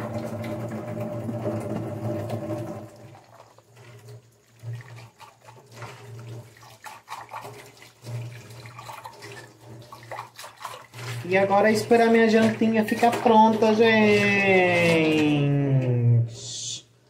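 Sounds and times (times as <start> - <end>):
tap water running into steel sink: 0.0 - 15.4
water splashing: 0.0 - 15.7.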